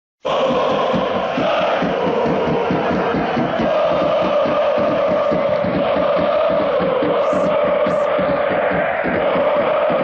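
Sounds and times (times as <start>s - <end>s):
football crowd chanting: 0.2s - 10.0s.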